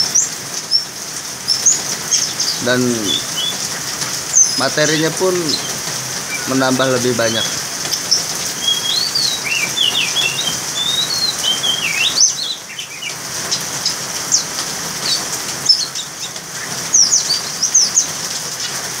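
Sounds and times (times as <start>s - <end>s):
songbird singing: 0.0s - 18.9s
rain hissing: 0.0s - 19.0s.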